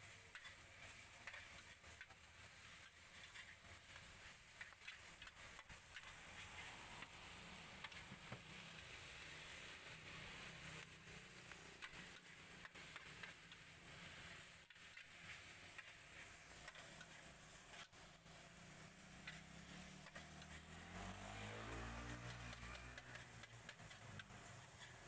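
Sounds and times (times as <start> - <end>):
metal spatula scraping a wok: 0.0 - 25.0.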